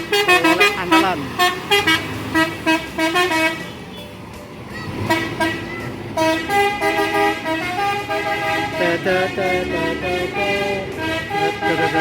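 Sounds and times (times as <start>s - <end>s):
bus horn playing a melody: 0.0s - 4.2s, 4.9s - 12.0s.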